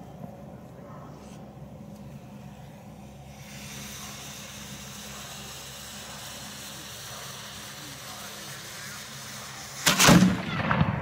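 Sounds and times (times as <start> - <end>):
steady low hum: 0.0 - 11.0
even hiss: 1.3 - 11.0.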